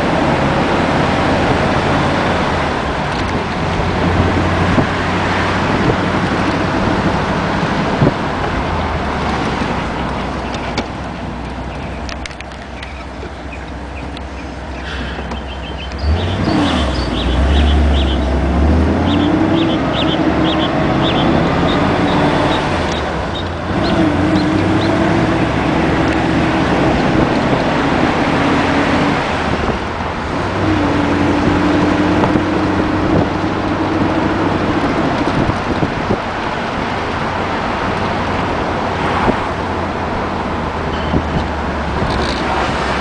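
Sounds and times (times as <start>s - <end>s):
car engine while driving: 0.0s - 43.0s.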